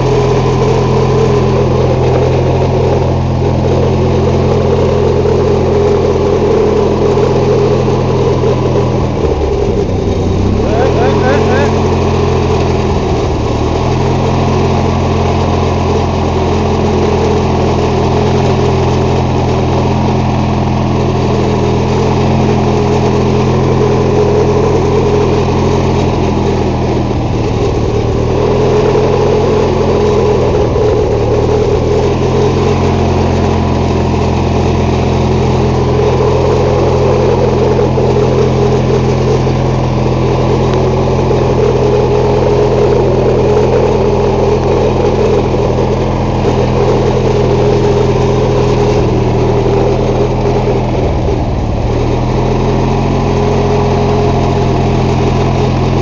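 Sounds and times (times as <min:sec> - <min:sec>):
lawn tractor engine running: 0:00.0 - 0:56.0.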